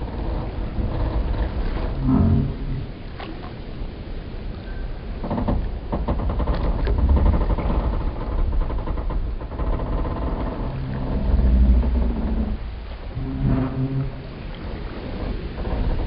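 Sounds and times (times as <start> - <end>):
wooden hulls creaking: 0.0 - 3.8, 4.4 - 16.0
low rumble: 0.0 - 16.0.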